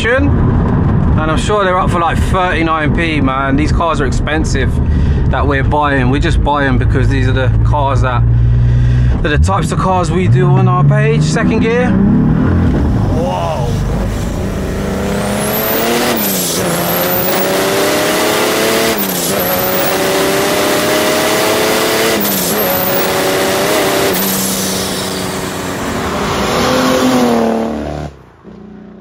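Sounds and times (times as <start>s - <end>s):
diesel engine accelerating: 0.3s - 29.0s.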